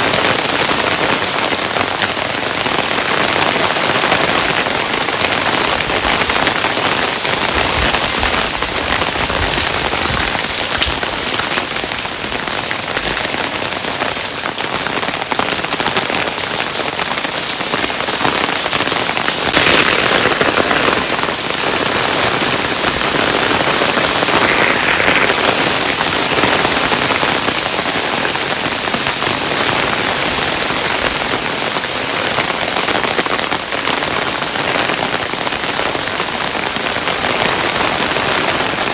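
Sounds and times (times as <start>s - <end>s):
hailstones pelting hard surface: 0.0s - 38.9s.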